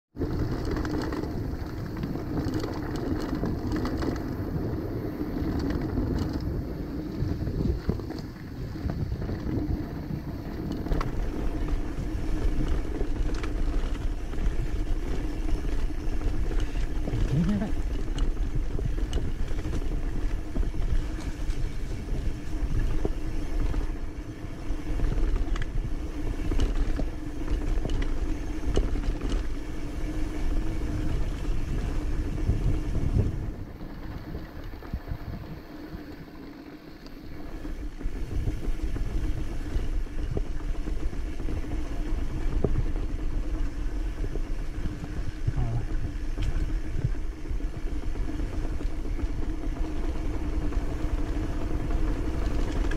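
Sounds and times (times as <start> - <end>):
motorcycle engine running: 0.2 - 52.9.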